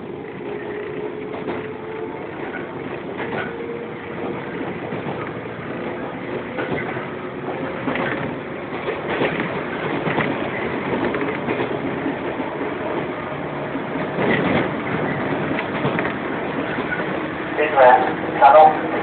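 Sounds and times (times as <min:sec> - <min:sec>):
train wheels rumbling: 0:00.0 - 0:19.0
wheels clicking over rail joints: 0:01.2 - 0:17.4.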